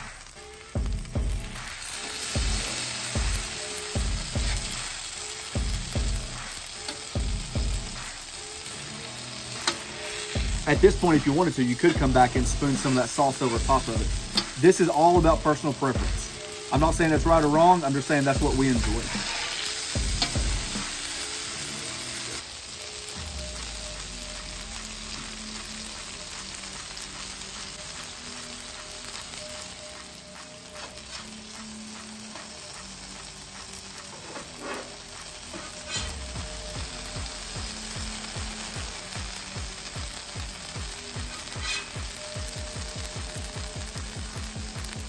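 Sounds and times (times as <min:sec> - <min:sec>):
meat sizzling on a griddle: 0:00.0 - 0:45.0
quiet background music with beat: 0:00.0 - 0:45.0.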